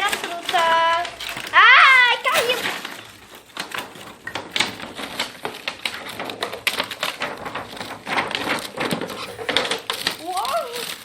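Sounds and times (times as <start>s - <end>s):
plastic toy pieces clattering: 0.0s - 11.0s.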